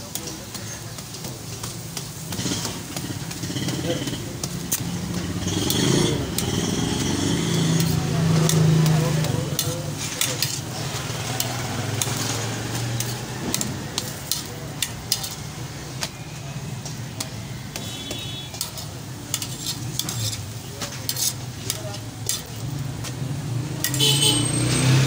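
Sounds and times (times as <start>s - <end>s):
metal spatula scraping griddle: 0.0s - 16.1s, 17.0s - 25.0s
flatbread sizzling on a griddle: 0.0s - 25.0s.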